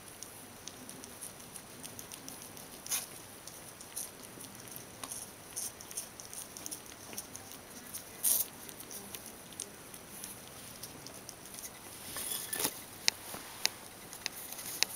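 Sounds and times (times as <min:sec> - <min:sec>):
kitten lapping water: 0:00.0 - 0:14.9.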